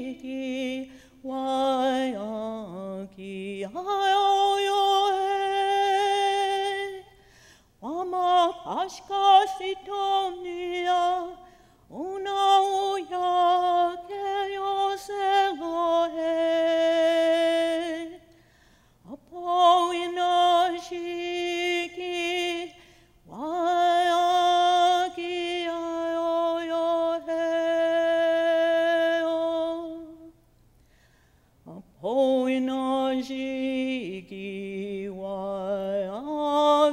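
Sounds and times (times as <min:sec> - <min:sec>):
woman singing unaccompanied: 0:00.0 - 0:07.2, 0:07.8 - 0:18.4, 0:19.0 - 0:30.4, 0:31.7 - 0:36.9.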